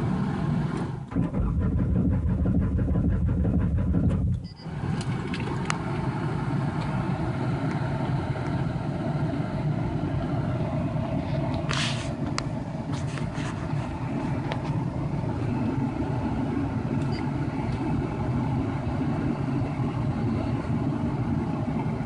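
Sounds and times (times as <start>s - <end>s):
car engine cranking: 0.0s - 22.0s
quiet steady hum: 0.0s - 22.0s.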